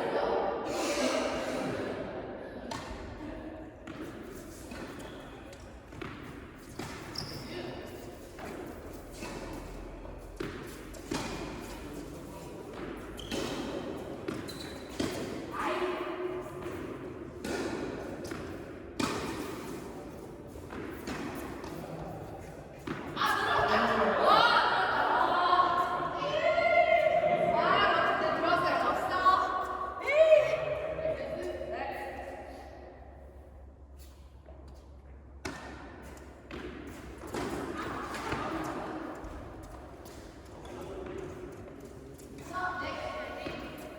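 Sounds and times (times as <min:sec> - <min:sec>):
reverberant hall noise: 0:00.0 - 0:43.9.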